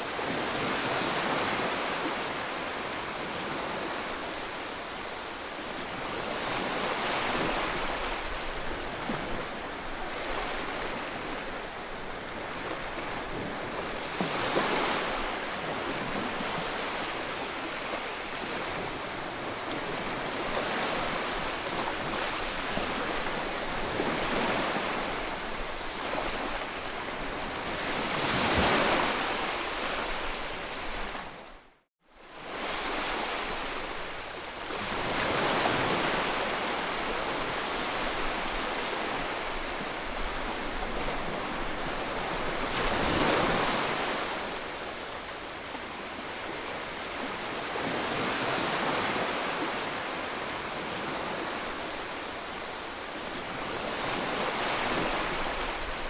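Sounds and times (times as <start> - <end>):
sea waves breaking: 5.9 - 31.4, 32.4 - 56.0.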